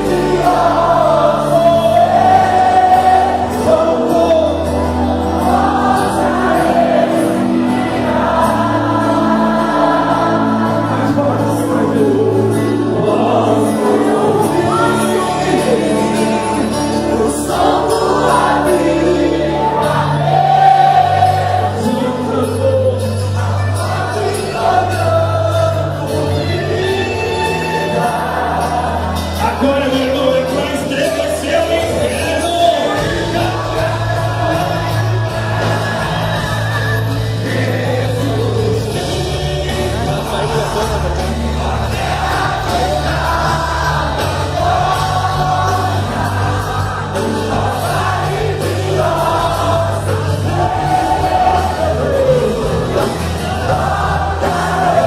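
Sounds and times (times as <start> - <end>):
gospel band playing: 0.0 - 55.0
group of voices singing: 0.0 - 55.0.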